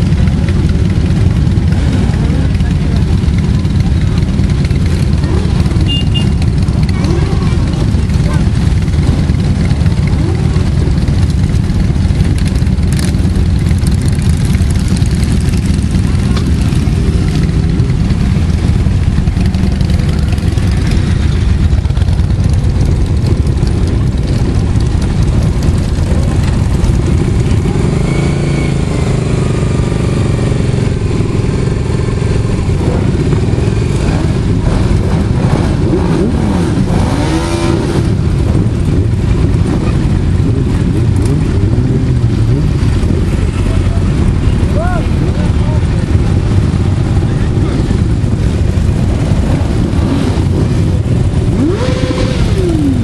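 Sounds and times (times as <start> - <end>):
motorcycle engines rumbling: 0.0 - 53.0
motorcycle revving: 0.0 - 53.0.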